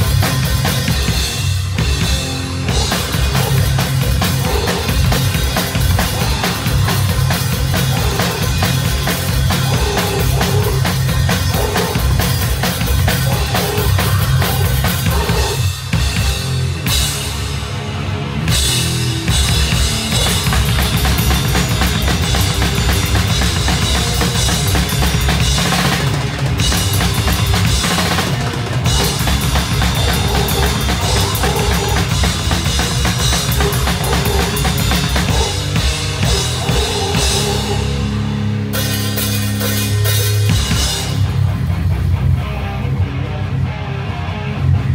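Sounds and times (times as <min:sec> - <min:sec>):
fast drumming: 0:00.0 - 0:17.5, 0:18.5 - 0:41.6
death metal band playing: 0:00.0 - 0:44.9.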